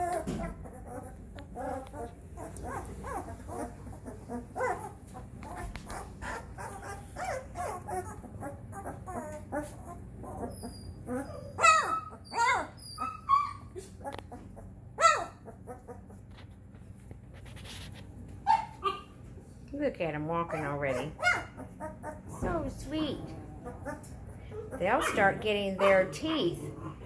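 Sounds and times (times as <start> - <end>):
puppies yelping: 0.0 - 16.4, 18.4 - 19.2, 20.5 - 27.0
puppies whimpering and squeaking: 0.0 - 16.7, 17.3 - 19.2, 20.4 - 27.0.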